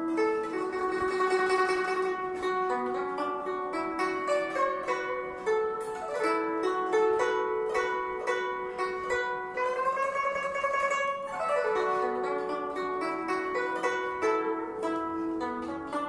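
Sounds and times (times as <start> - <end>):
plucked guzheng melody: 0.0 - 16.0.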